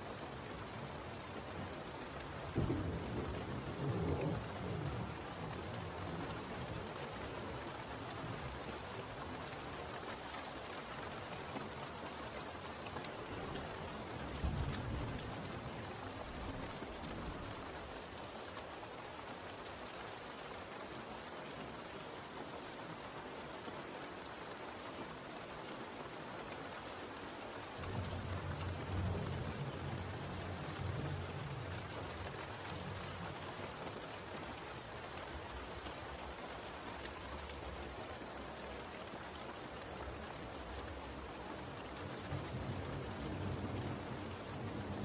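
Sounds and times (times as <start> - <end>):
rain falling: 0.0 - 45.0.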